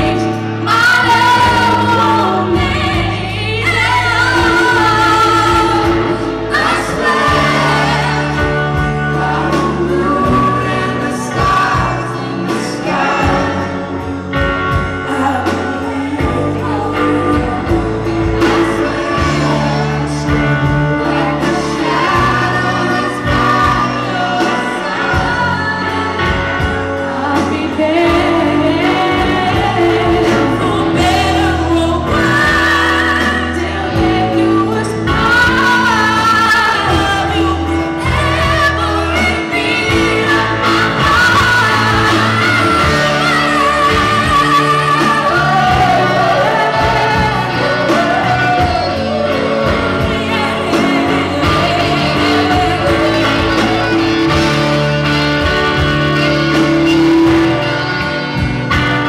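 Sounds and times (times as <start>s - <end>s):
voices singing in harmony: 0.0s - 58.7s
bass guitar: 0.0s - 59.0s
electric guitars: 0.0s - 59.0s.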